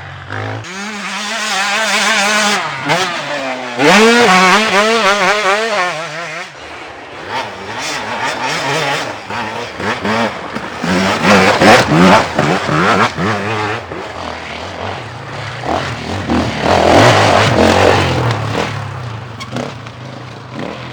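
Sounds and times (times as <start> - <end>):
dirt bike engines revving: 0.0 - 20.9.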